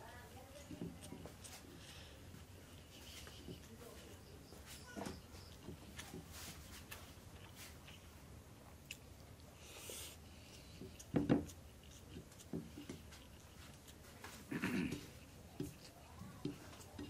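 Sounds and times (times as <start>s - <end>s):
man chewing food: 0.6s - 17.0s.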